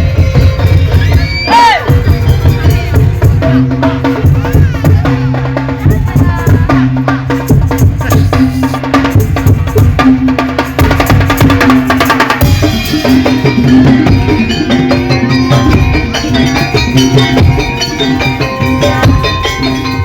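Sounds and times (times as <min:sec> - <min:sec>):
background music with drum beat: 0:00.0 - 0:20.0.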